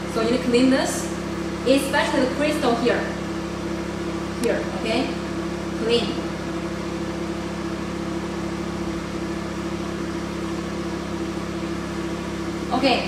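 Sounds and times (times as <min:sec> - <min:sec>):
machine cooling system humming: 0:00.0 - 0:13.0.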